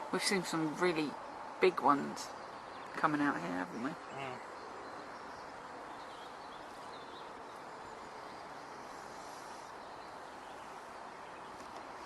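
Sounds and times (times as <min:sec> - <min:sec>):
faint birdsong chirps: 0:00.0 - 0:12.0
outdoor background noise: 0:00.0 - 0:12.0.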